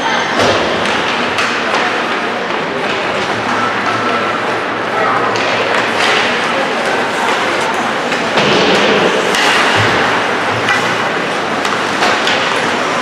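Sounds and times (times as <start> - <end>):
spectators' voices in a hall: 0.0 - 13.0.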